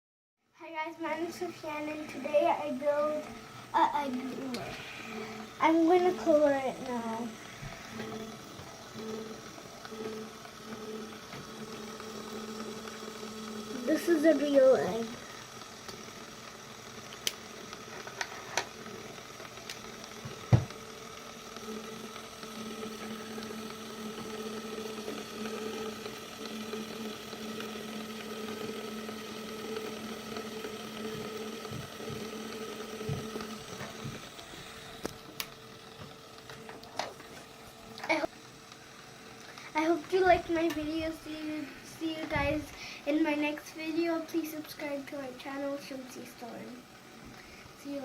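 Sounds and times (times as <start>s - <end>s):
small electric motor humming: 0.8s - 48.0s.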